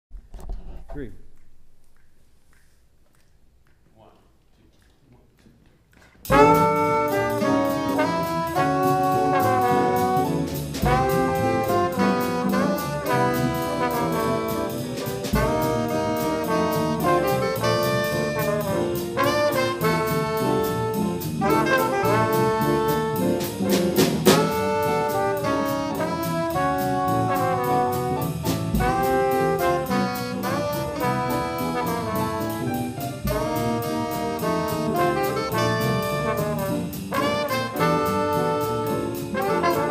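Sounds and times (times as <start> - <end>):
jazz combo playing: 6.2 - 39.9
trombone and saxophone melody: 6.2 - 39.9.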